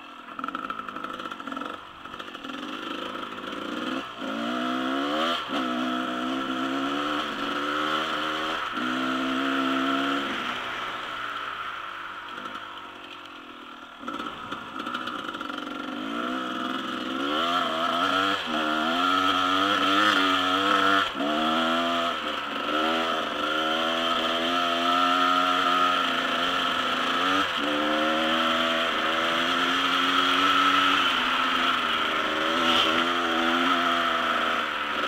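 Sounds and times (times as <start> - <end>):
dirt bike engine revving: 0.1 - 11.7, 13.8 - 35.0.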